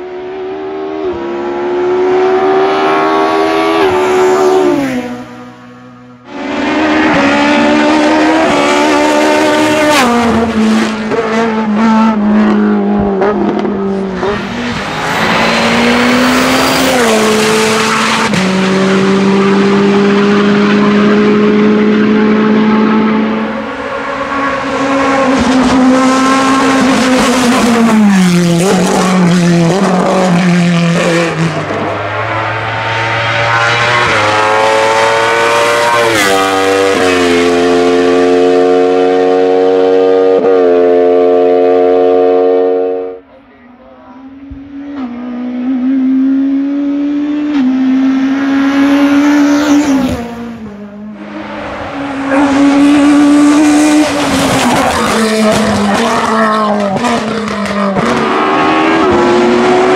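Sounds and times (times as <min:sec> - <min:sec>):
race car engine revving: 0:00.0 - 0:43.3, 0:44.2 - 0:59.9.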